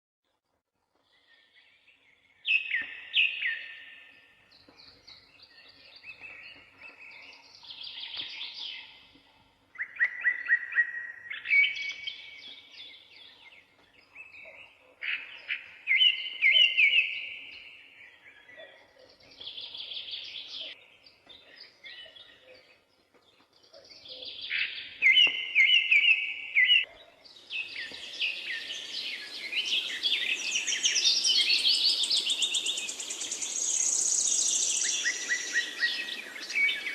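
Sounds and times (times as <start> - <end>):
forest birds singing: 0.8 - 36.9.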